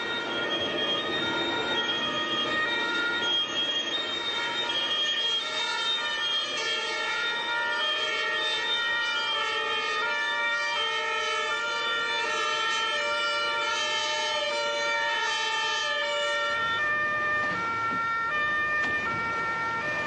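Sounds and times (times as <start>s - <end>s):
fire engine sirens: 0.0s - 20.0s.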